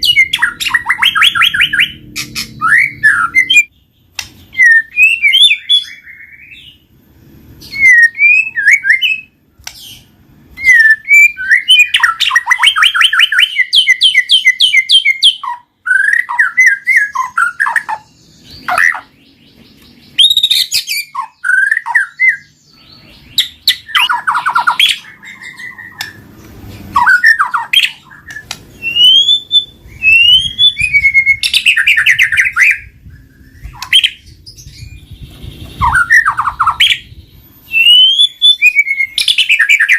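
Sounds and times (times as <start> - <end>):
bird singing whistles and trills: 0.0 - 6.9, 7.6 - 39.9.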